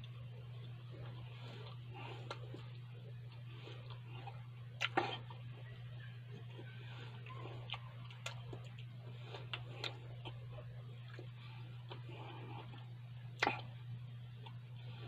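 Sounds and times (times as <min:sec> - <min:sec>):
chewing with wet mouth clicks: 0:00.0 - 0:14.7
steady low hum: 0:00.0 - 0:15.0.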